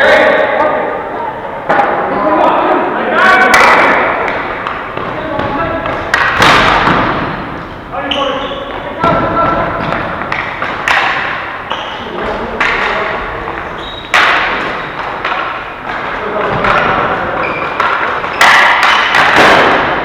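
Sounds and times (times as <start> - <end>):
ball and sticks hitting boards: 3.5 - 20.0.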